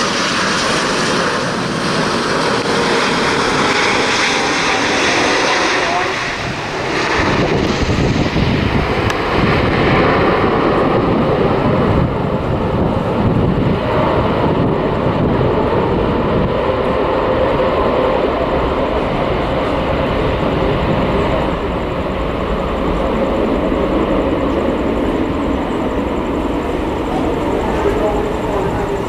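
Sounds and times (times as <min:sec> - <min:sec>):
jet airliner landing: 0:00.0 - 0:29.0.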